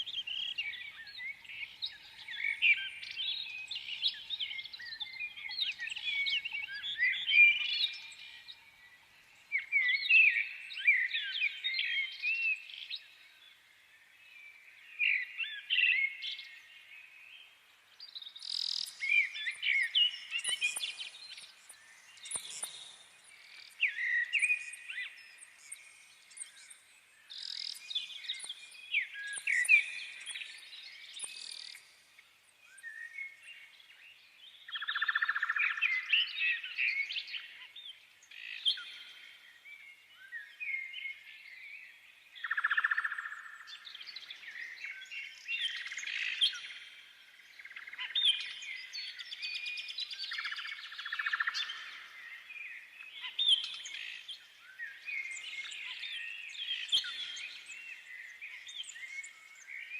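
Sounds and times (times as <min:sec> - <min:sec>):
birds chirping and singing: 0:00.0 - 0:13.6, 0:14.4 - 0:59.9.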